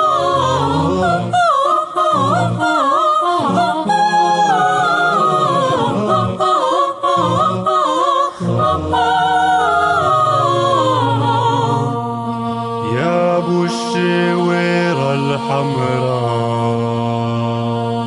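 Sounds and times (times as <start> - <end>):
person singing wordless melismas: 0.0 - 18.0.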